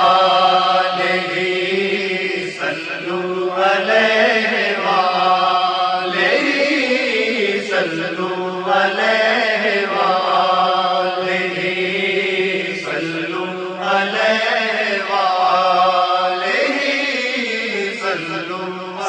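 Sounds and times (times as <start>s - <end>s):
man chanting devotional song: 0.0s - 19.0s.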